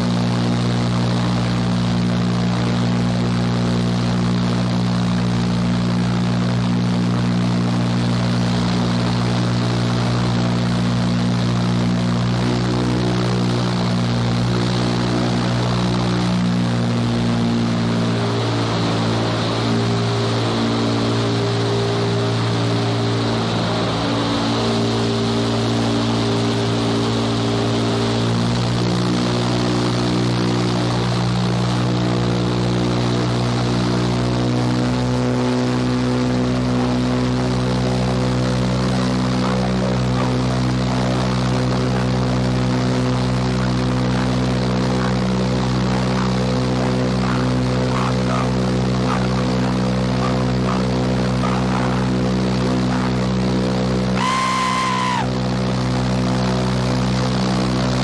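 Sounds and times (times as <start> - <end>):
constant low fan hum: 0.0 - 58.0.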